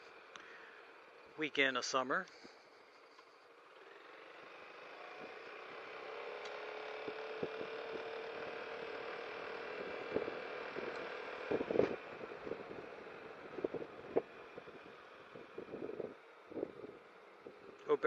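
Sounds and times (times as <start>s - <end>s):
scooter engine drone: 0.0s - 1.5s, 2.2s - 18.0s.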